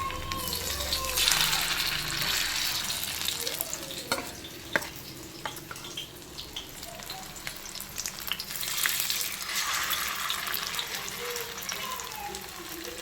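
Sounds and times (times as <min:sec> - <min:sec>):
fish sizzling in hot oil: 0:00.6 - 0:13.0.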